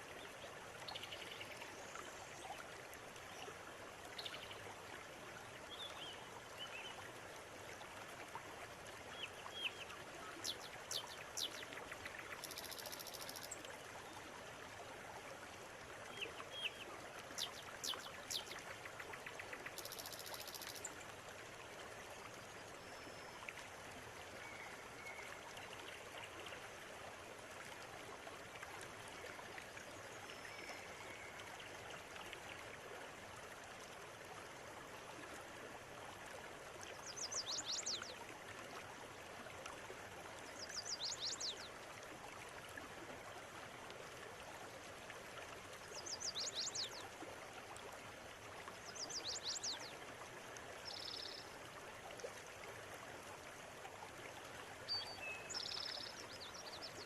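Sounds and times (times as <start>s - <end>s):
river water running: 0.0s - 57.0s.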